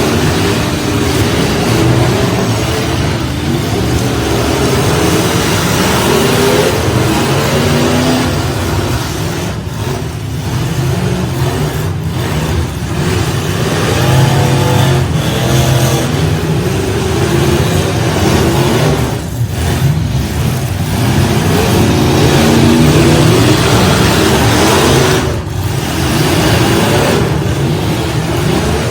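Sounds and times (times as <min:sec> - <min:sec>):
truck engines revving: 0:00.0 - 0:28.9.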